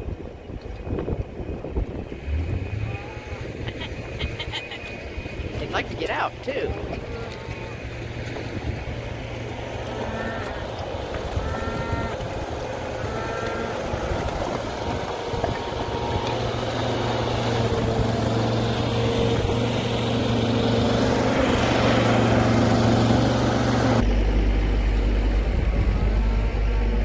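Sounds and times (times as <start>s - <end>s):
farm vehicle engine running: 0.0s - 27.0s.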